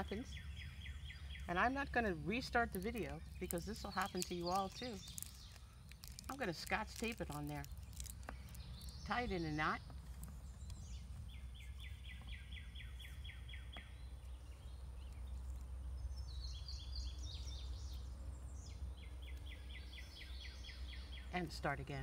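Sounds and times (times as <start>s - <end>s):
low outdoor rumble: 0.0s - 22.0s
songbird singing: 0.0s - 22.0s.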